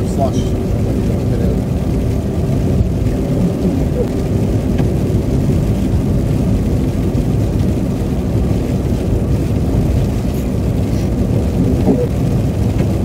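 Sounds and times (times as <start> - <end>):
car driving on slushy road: 0.0 - 13.0.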